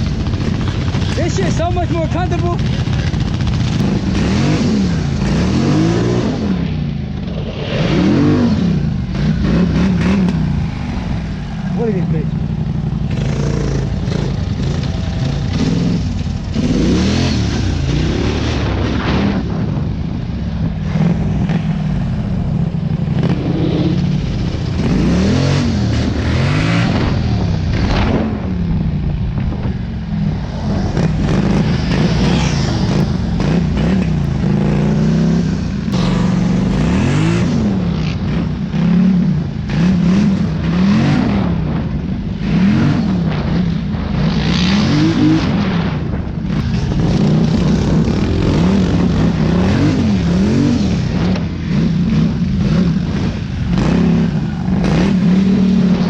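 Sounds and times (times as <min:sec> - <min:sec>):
off-road vehicle engine revving: 0:00.0 - 0:19.8, 0:20.8 - 0:28.8, 0:30.3 - 0:56.0.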